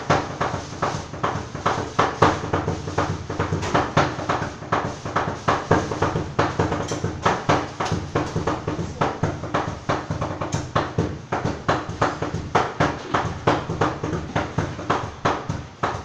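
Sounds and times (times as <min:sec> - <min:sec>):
cleavers chopping on wooden board: 0:00.0 - 0:16.0.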